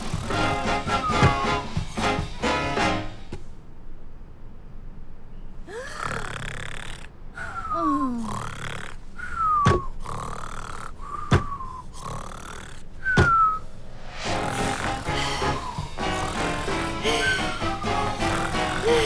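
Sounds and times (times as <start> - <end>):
cartoon snoring: 0.0 - 3.4, 5.6 - 19.0.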